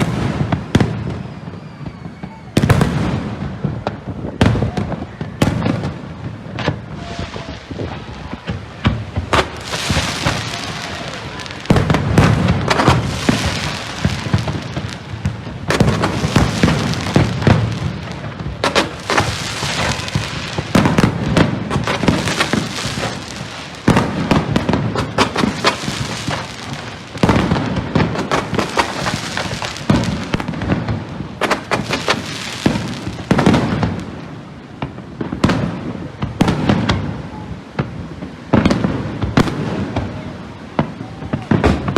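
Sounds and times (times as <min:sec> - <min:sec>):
fireworks bursts and crackle: 0:00.0 - 0:41.9
heavy fireworks boom: 0:00.0 - 0:41.9.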